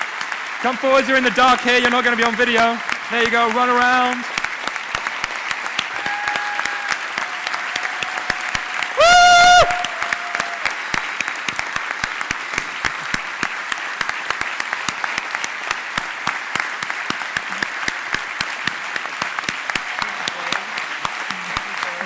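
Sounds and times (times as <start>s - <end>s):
large audience applauding: 0.0s - 22.0s.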